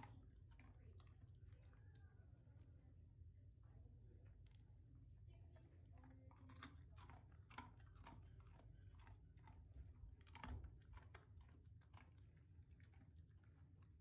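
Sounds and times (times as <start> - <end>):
dog chewing treats: 0.0 - 2.8, 4.2 - 14.0.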